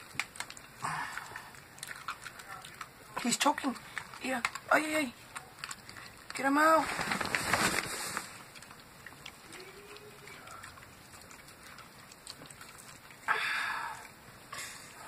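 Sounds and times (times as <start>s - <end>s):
dog licking puppy: 0.0s - 13.3s
wet crackling and rustling: 0.0s - 13.3s.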